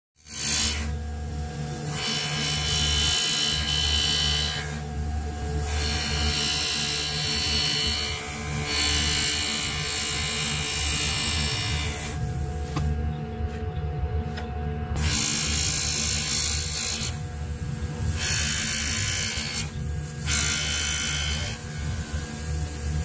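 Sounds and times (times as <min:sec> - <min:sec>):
engraving tool hissing on metal: 0:00.2 - 0:12.9, 0:15.0 - 0:23.0
mechanical hum: 0:00.2 - 0:23.0.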